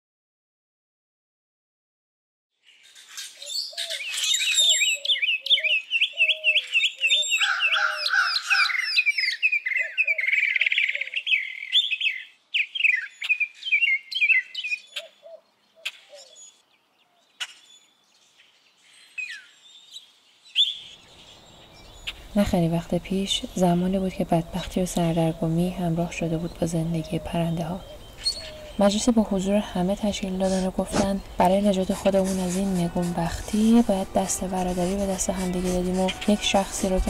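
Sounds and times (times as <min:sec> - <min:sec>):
songbirds chirping and trilling: 0:02.6 - 0:37.0
lower bird calls: 0:02.7 - 0:37.0.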